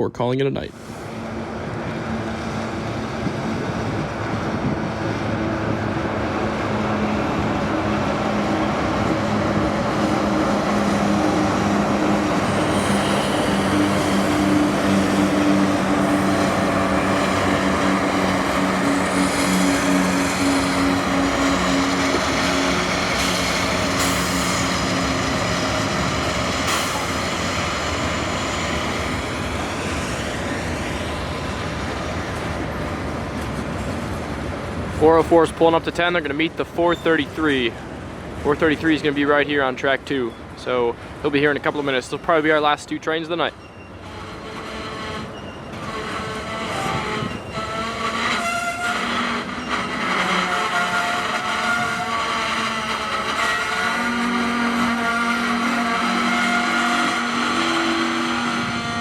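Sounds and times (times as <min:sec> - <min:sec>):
diesel locomotive engine hum: 0:00.0 - 0:59.0
train wheels on rail: 0:00.7 - 0:39.6, 0:40.2 - 0:59.0.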